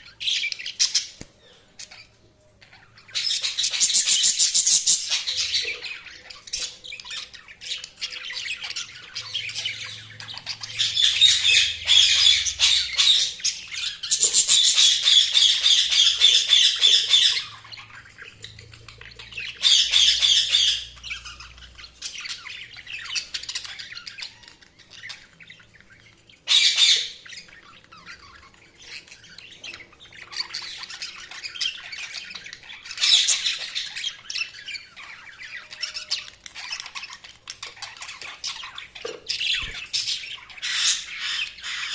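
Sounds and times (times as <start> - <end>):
budgies chattering and squawking: 0.0 - 41.9.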